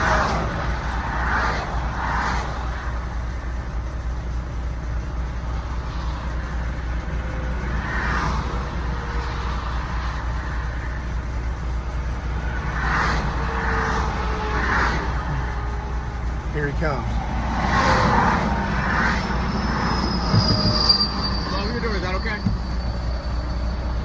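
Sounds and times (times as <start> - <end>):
low traffic rumble: 0.0 - 24.0
vehicles swishing past: 0.0 - 24.0.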